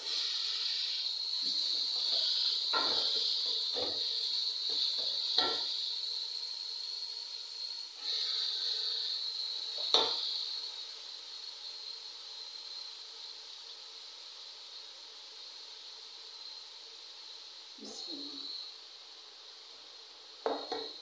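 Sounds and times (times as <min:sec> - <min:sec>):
greens sizzling in oil: 0:00.0 - 0:21.0.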